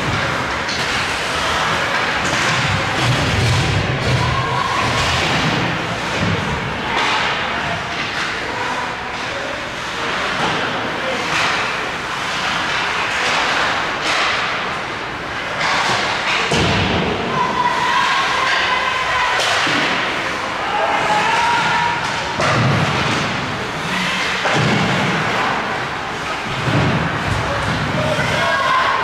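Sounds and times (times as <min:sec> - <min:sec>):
echoing arena noise: 0:00.0 - 0:29.0
puck hitting rink boards: 0:00.0 - 0:29.0.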